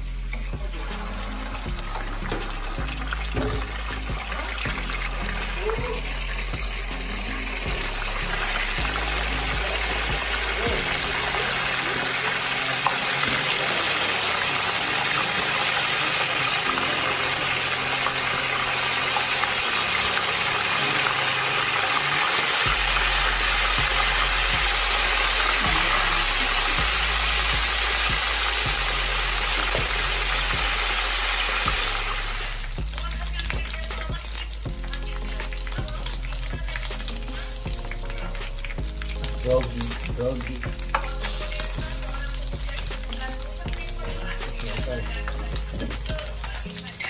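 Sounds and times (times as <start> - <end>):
fish deep-frying in oil: 0.0 - 47.0.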